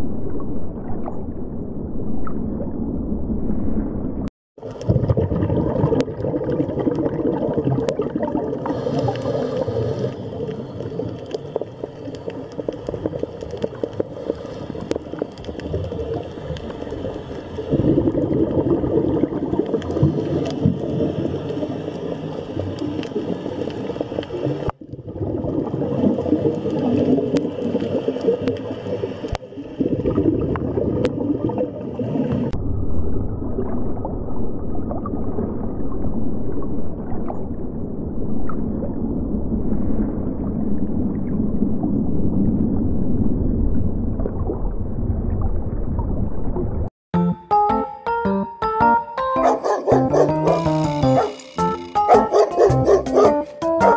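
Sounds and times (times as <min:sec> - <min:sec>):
deep underwater rumble: 0:00.0 - 0:46.9
underwater gurgling: 0:00.0 - 0:46.9.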